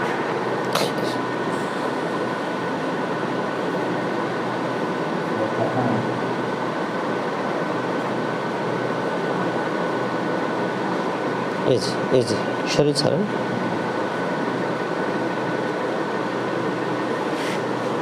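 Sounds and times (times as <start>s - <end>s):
ventilation hiss and hum: 0.0s - 18.0s.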